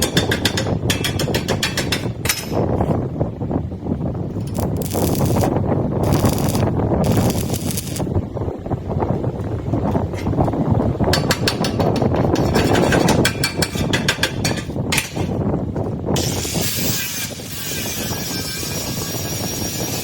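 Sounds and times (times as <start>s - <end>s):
low mechanical rumble: 0.0s - 17.6s.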